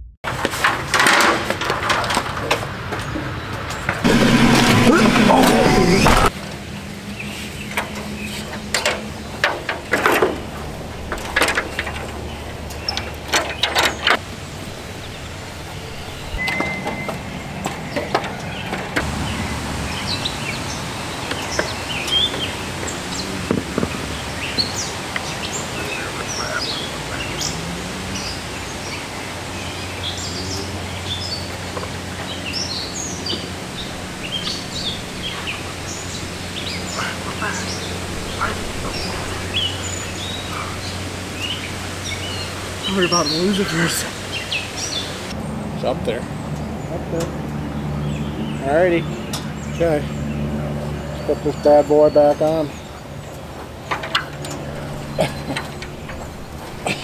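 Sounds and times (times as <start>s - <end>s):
birds chirping: 2.9s - 57.0s.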